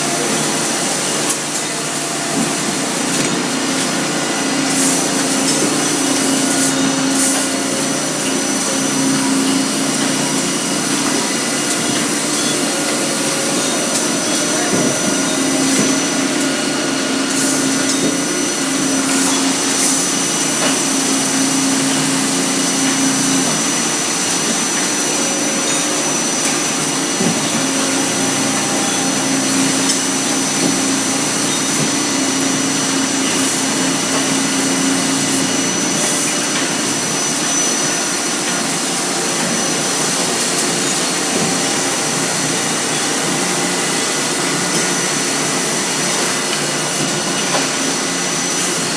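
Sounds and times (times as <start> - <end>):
factory machinery din: 0.0 - 48.9.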